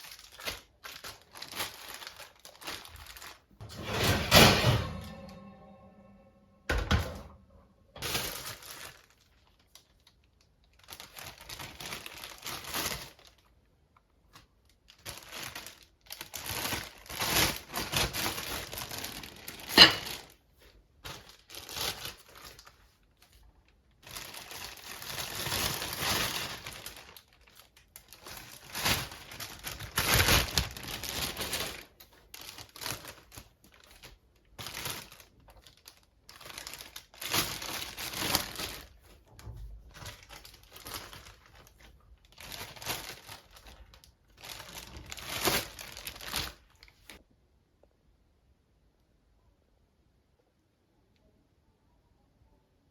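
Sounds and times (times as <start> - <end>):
packaging crinkling: 0.0 - 3.6, 8.0 - 47.2.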